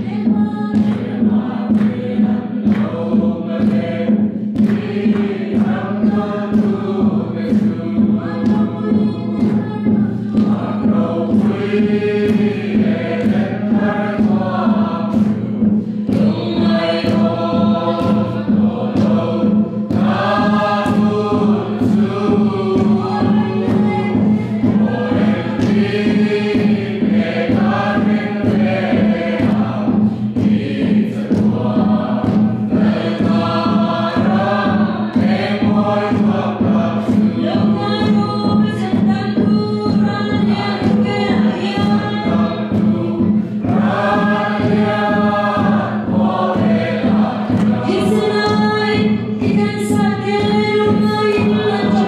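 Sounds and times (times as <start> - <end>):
congregation singing a hymn: 0.0 - 52.0
drum beaten in steady rhythm: 0.0 - 52.0.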